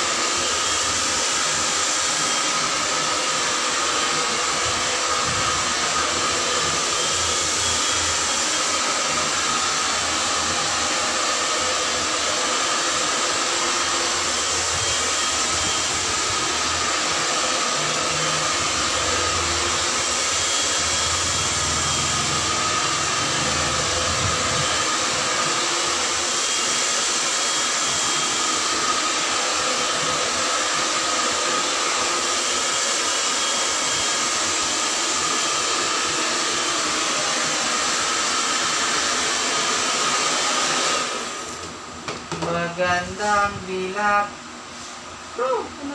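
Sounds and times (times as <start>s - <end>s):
hair dryer running: 0.0s - 45.9s.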